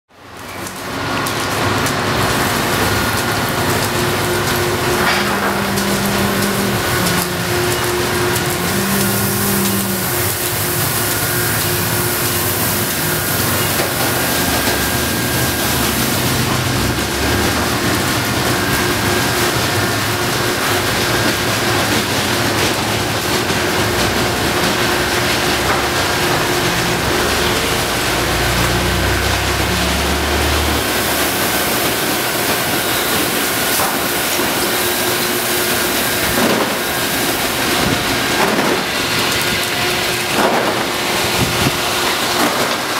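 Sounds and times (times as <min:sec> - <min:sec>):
hissing water spray: 0:00.6 - 0:42.9
motor hum: 0:02.1 - 0:42.4.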